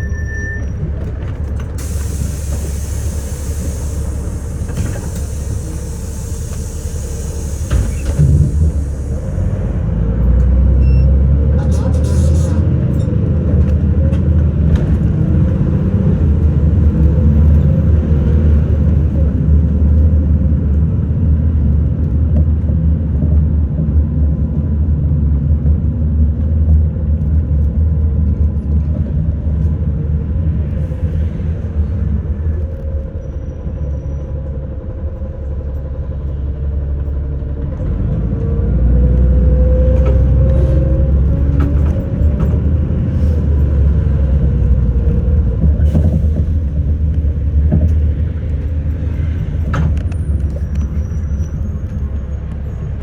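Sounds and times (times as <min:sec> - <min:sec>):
bus engine drone: 0:00.0 - 0:53.0
road rumble: 0:00.0 - 0:53.0.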